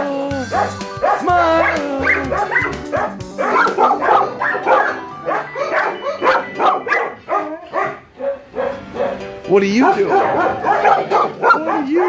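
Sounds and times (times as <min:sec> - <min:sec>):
background music: 0:00.0 - 0:12.0
dogs barking and yipping: 0:00.4 - 0:12.0.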